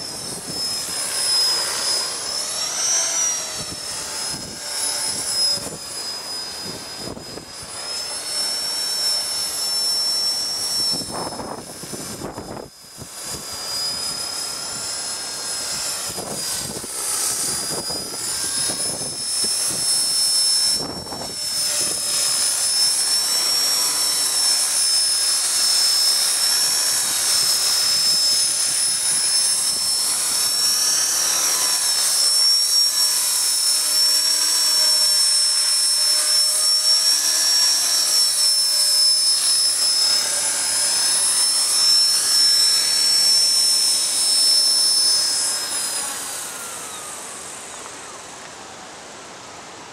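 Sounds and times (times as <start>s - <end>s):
rc helicopter motor whine: 0.0s - 49.9s.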